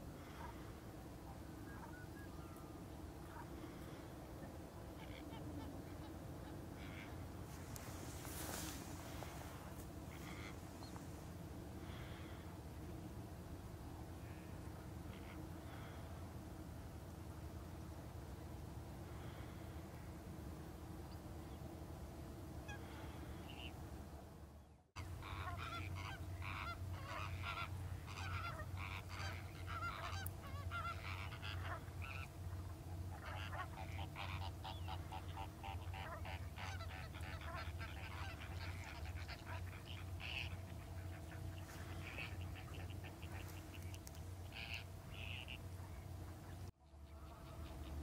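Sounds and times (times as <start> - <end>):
flamingos honking and chattering: 0.0 - 16.3, 22.6 - 23.8, 25.0 - 48.0
steady low hum: 0.0 - 48.0.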